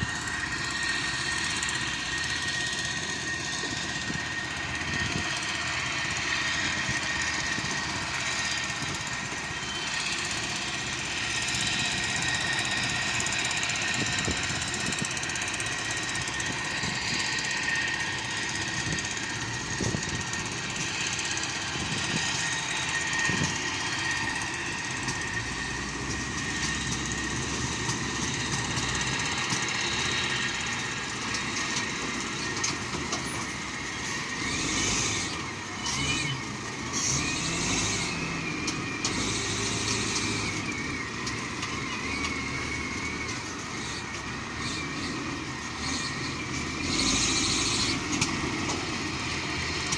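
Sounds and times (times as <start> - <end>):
heavy machine engine running: 0.0 - 49.9.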